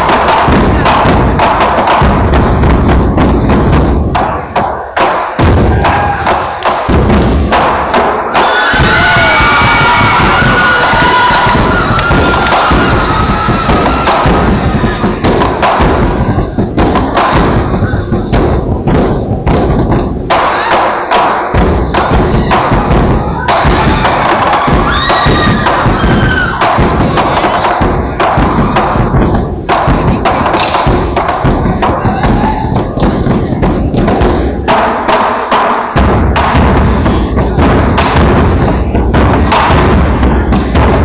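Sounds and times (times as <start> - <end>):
barrel drums beaten with sticks: 0.0 - 41.0.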